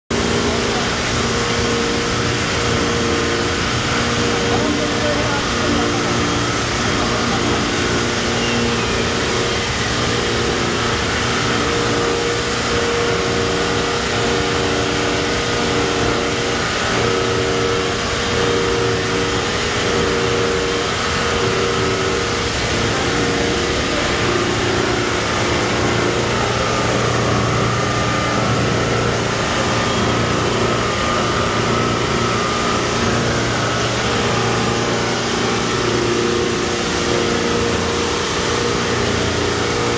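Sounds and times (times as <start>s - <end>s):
wire chopping machine drone: 0.1s - 39.9s.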